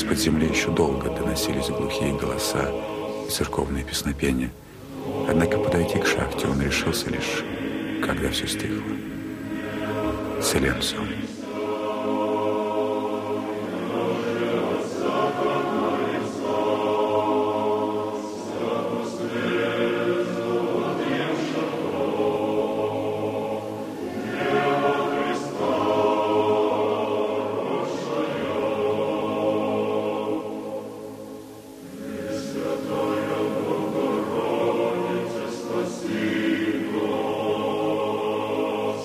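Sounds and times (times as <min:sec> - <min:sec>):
choir singing a slow chant: 0:00.0 - 0:39.0.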